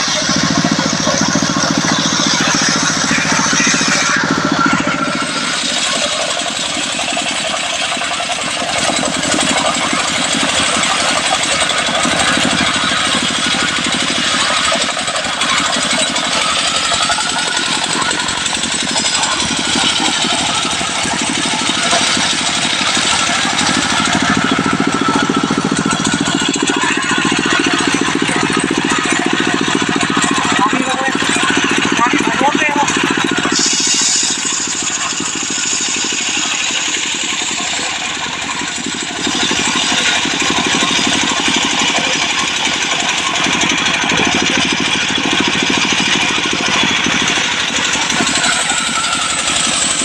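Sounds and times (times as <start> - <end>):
diesel engine running: 0.0 - 50.0
saw blade cutting wood: 0.0 - 50.0.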